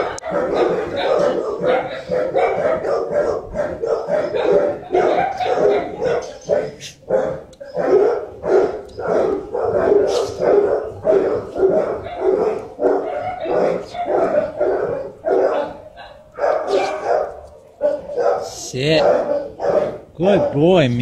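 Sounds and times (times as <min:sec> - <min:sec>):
dogs barking: 0:00.0 - 0:21.0.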